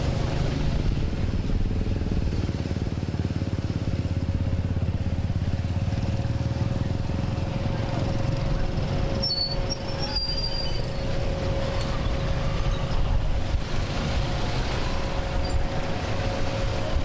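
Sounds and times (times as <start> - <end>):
constant hum: 0.0 - 17.0
engine rumbling: 0.0 - 17.0.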